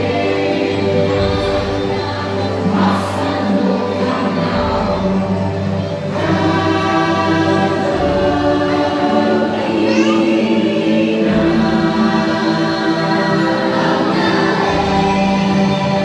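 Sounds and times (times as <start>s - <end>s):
choir singing long notes: 0.0s - 16.0s.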